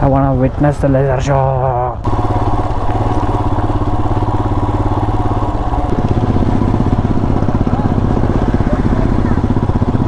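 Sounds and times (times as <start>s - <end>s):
single-cylinder motorcycle engine running: 0.0s - 10.0s.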